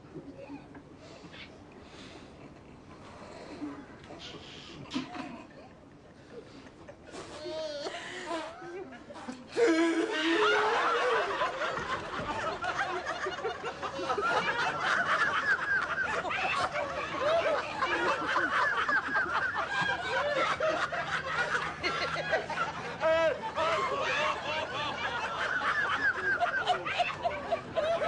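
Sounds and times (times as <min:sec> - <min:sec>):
people laughing: 0:04.9 - 0:28.0.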